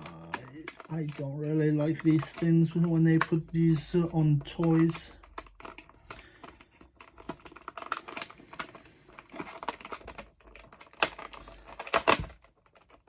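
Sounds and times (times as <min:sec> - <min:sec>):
twist ties clicking and rattling: 0:00.0 - 0:13.0.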